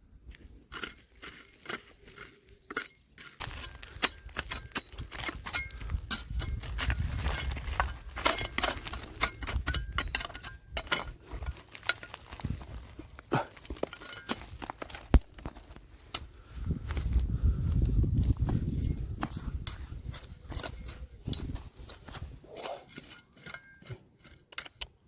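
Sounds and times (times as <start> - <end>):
stones and gravel clinking: 0.7 - 16.3, 18.2 - 25.0.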